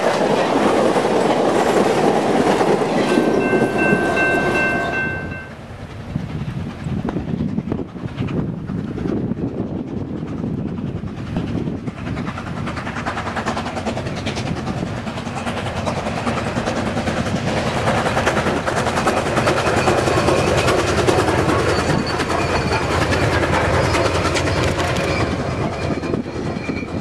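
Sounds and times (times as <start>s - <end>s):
steam locomotive passing: 0.0s - 27.0s
wheels clattering on rails: 0.0s - 27.0s.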